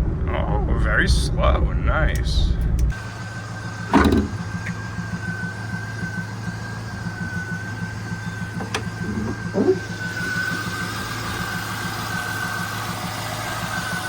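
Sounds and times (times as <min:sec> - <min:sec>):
car engine idling: 0:02.2 - 0:14.0.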